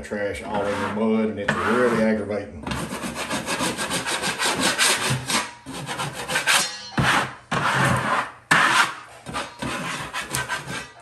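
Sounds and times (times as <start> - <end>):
drywall knife scraping wall: 0.4 - 11.0.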